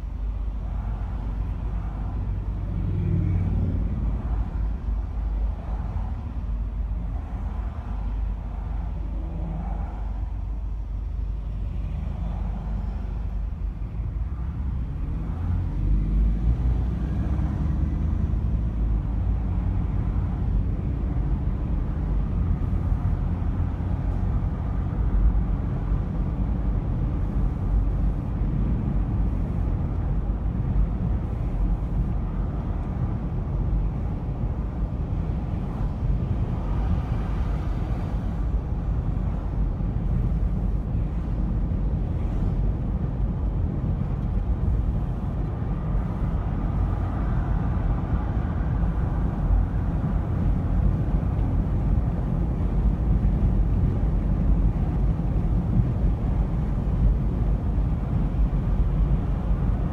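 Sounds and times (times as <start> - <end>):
car engine rumble: 0.0 - 59.9
tyres on road: 0.0 - 59.9.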